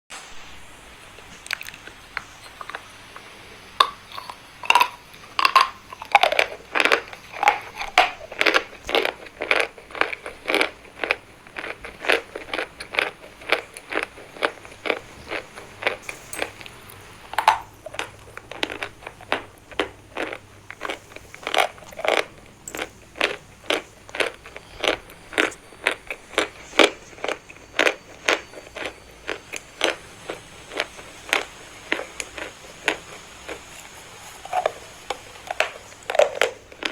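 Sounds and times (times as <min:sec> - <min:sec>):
chalk being chewed crunching: 0:01.2 - 0:36.9.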